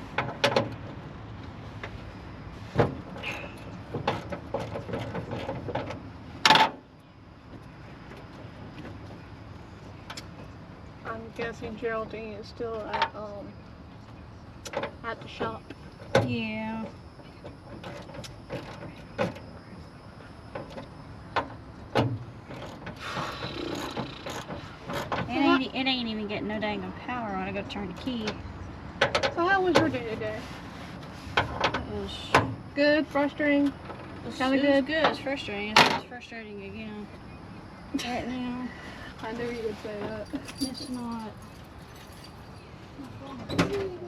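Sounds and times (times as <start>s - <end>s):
steady background noise: 0.0s - 44.0s.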